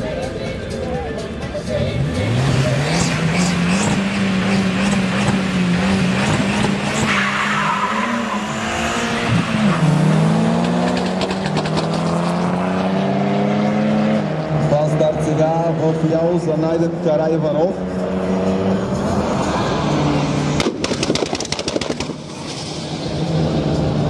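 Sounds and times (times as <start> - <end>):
drag racing cars accelerating: 1.6 - 24.0.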